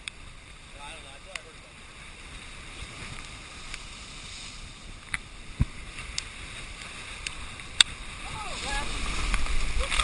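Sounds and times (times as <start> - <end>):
surf breaking against rocks: 0.0 - 10.0
wind on microphone: 1.8 - 10.0.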